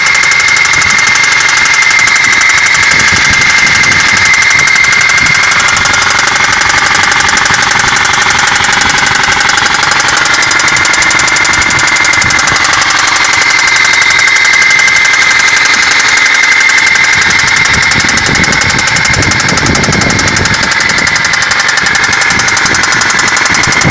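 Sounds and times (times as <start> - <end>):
engine knocking: 0.0 - 23.9
high engine whine: 0.0 - 23.9.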